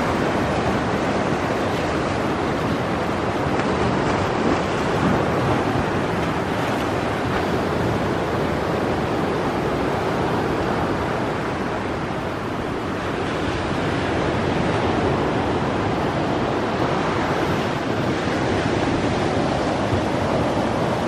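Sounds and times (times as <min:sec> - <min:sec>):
small waves washing onto sand: 0:00.0 - 0:21.0
wind on microphone: 0:00.0 - 0:21.0.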